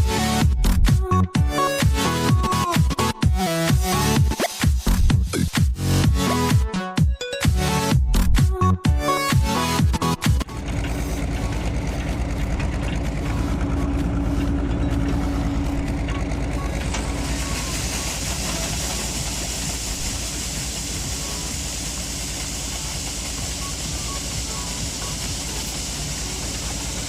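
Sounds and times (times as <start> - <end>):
diesel engine running: 0.0 - 6.6, 7.6 - 27.0.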